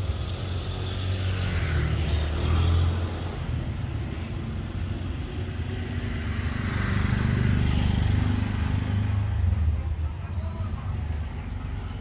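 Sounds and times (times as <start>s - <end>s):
motorbike engine passing by: 0.0s - 9.8s.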